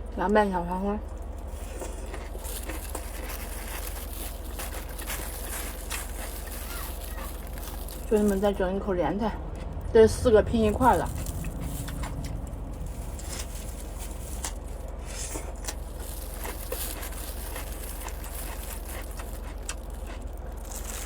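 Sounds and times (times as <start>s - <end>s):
steady low hum: 0.0s - 21.0s
faint chewing: 1.0s - 8.8s, 10.6s - 21.0s
small clicks and rustles: 1.6s - 8.5s, 11.1s - 21.0s.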